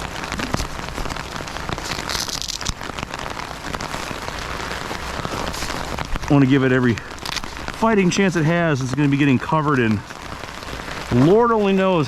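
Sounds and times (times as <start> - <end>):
freezing rain pattering: 0.0 - 12.0.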